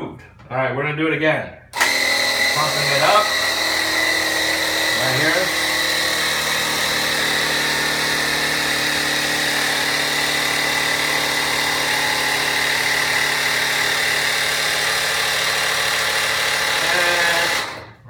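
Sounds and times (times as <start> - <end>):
electric air pump whining: 1.7 - 18.0.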